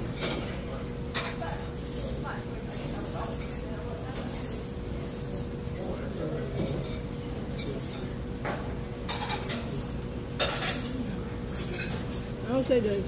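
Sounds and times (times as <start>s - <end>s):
faint murmur of voices: 0.0s - 13.0s
dishes or cutlery clinking: 0.1s - 12.3s.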